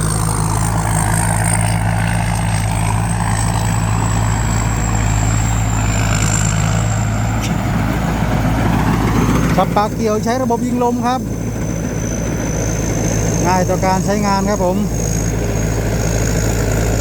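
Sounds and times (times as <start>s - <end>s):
combine harvester engine droning: 0.0s - 17.0s
thin high whine: 0.0s - 17.0s.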